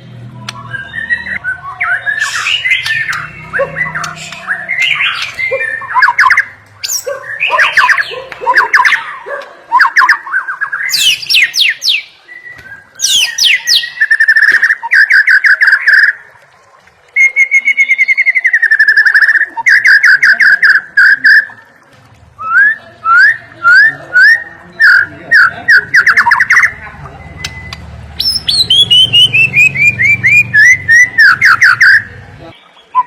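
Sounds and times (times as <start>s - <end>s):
bird singing whistled phrases: 0.4s - 16.3s, 17.1s - 21.6s, 22.4s - 33.0s.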